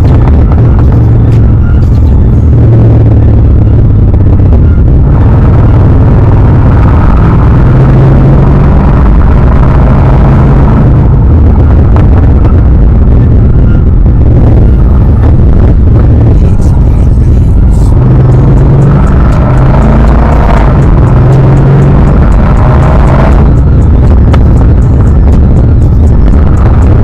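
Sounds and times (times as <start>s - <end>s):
music playing: 0.0s - 3.4s, 4.8s - 27.0s
car engine droning: 0.0s - 27.0s
road noise: 0.0s - 27.0s.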